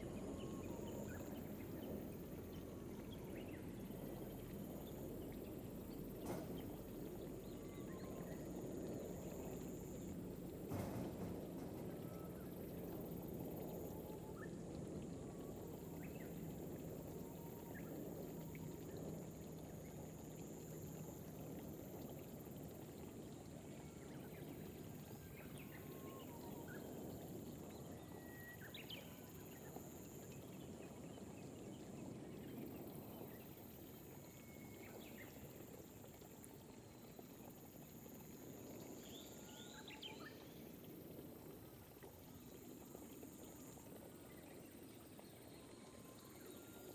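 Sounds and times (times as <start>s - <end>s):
gentle rain pattering: 0.0s - 46.9s.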